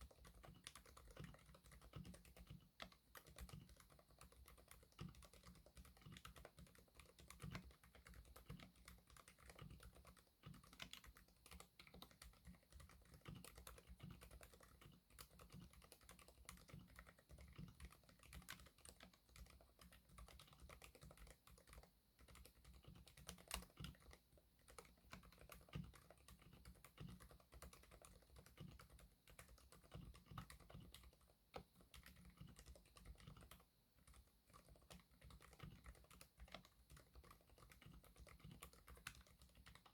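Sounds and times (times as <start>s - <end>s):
soft typing on mechanical keyboard: 0.0s - 39.9s.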